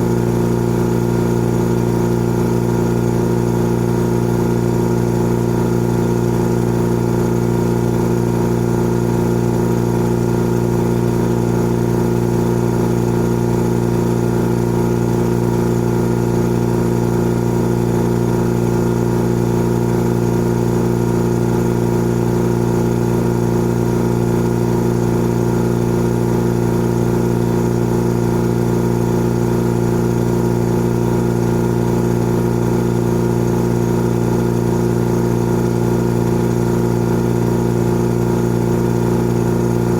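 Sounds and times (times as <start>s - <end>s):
air compressor humming: 0.0s - 39.9s.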